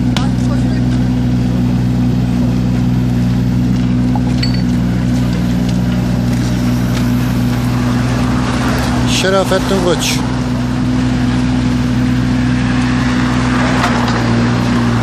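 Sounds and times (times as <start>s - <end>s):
excavator diesel engine running: 0.0s - 15.0s
hydraulics working: 0.0s - 15.0s.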